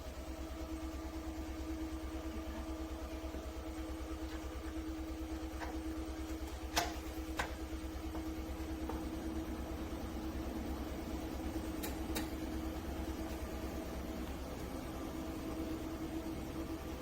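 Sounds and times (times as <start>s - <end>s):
extractor fan humming: 0.0s - 17.0s.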